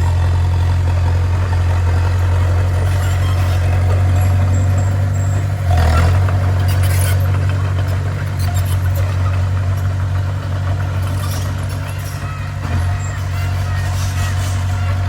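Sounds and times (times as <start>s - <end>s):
bulldozer diesel engine humming: 0.0s - 15.0s.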